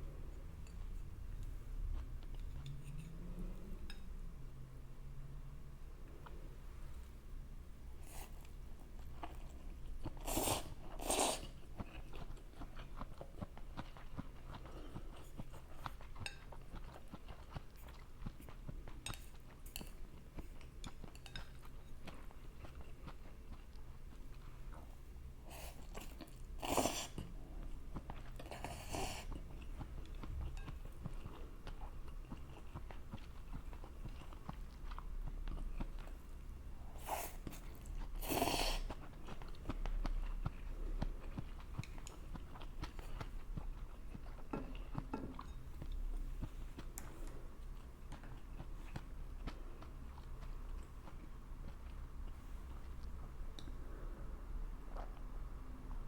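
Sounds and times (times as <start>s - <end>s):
quiet chewing: 8.0s - 54.0s.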